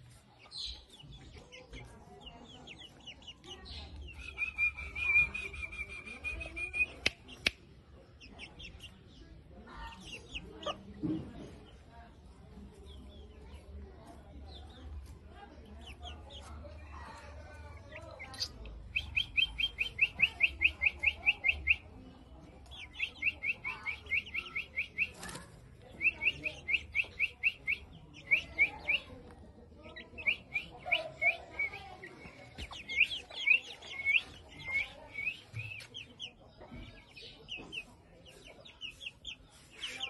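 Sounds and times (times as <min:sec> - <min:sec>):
chicks peeping: 0:00.0 - 0:40.0.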